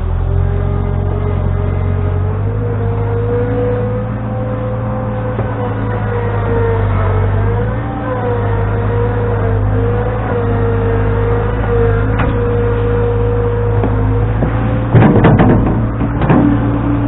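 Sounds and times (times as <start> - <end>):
engine running with whine: 0.0 - 17.0.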